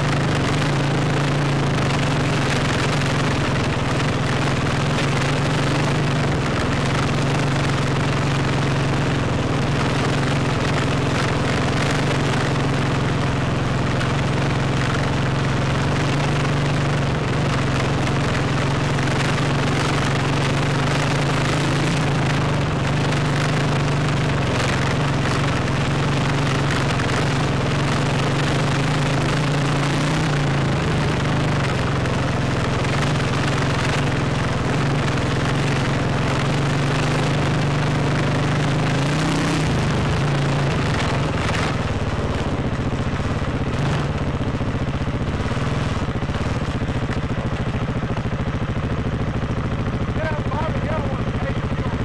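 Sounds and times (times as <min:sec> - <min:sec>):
dirt bike engine running: 0:00.0 - 0:52.0.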